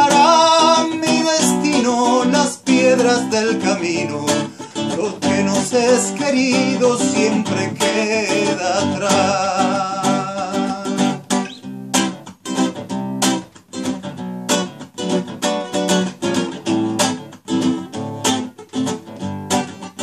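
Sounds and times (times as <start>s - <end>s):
classical guitar strumming: 0.0s - 20.0s.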